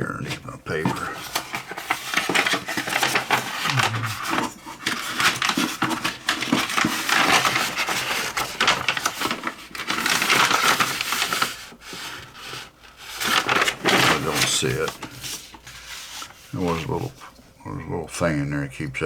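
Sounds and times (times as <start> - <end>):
paper rustling: 0.0 - 17.6.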